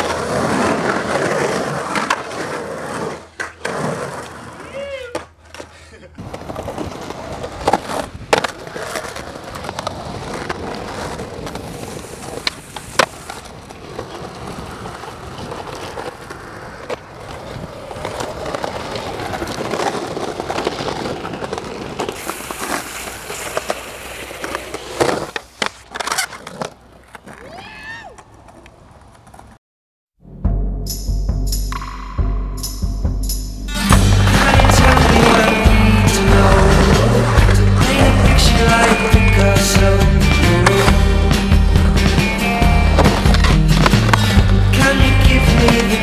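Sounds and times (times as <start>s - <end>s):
skateboard clacking on ground: 0.0s - 29.6s, 33.9s - 41.0s, 42.0s - 46.0s
skateboard wheels rolling on concrete: 0.0s - 29.6s, 33.8s - 46.0s.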